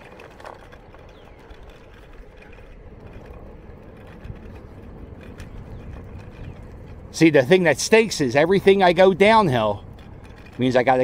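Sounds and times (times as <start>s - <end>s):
scooter wheels rumbling on pavement: 0.0s - 11.0s.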